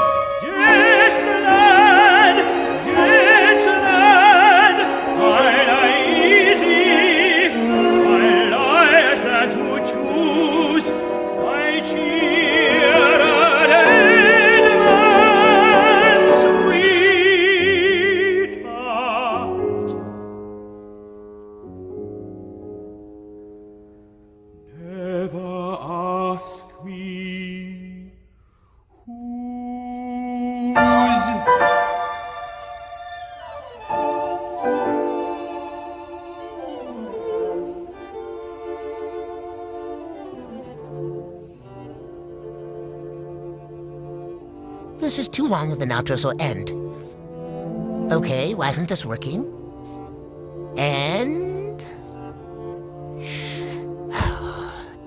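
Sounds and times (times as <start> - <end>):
operatic singing with vibrato: 0.0 - 20.2, 24.7 - 28.3, 28.9 - 55.0
sustained accompaniment: 0.0 - 26.3, 30.3 - 55.0.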